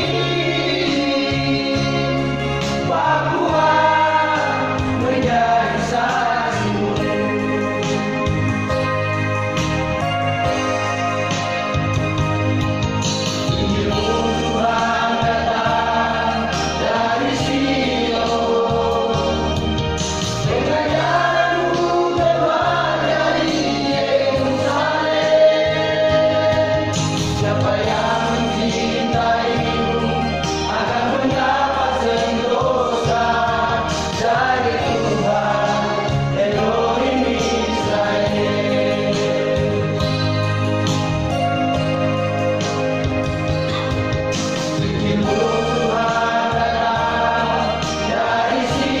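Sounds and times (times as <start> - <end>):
group singing gospel song: 0.0 - 8.8, 13.0 - 41.9, 43.9 - 49.0
instrumental backing with bass: 0.0 - 49.0.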